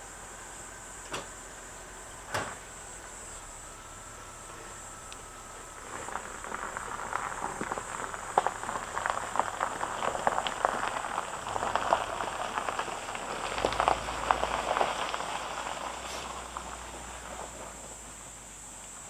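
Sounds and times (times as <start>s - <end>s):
low engine rumble: 0.0s - 19.0s
tyres crunching over gravel: 0.1s - 19.0s.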